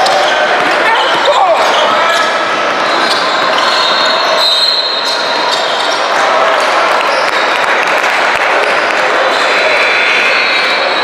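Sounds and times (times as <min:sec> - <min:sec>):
din of spectators' voices: 0:00.0 - 0:11.0.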